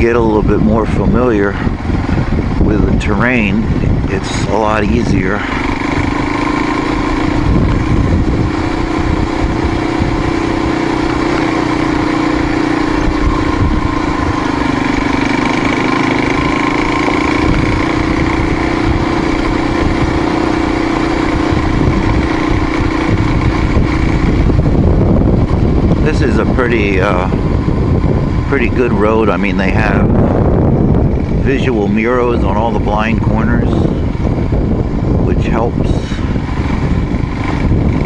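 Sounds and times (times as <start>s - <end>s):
dirt bike engine: 0.0s - 38.0s
rough low rumble: 0.0s - 38.0s.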